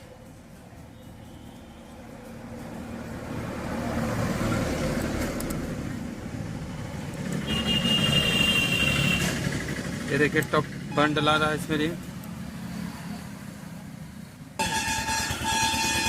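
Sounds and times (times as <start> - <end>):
passing vehicle engine: 0.0 - 16.0.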